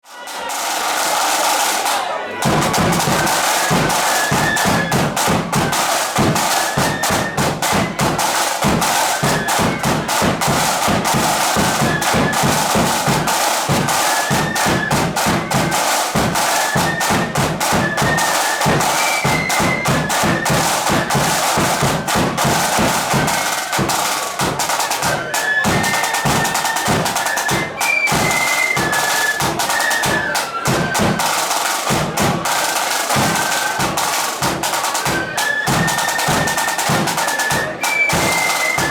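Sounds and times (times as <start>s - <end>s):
flutes playing melody: 0.1s - 38.9s
snare drums: 0.1s - 38.9s
bass drum march beat: 0.8s - 38.9s.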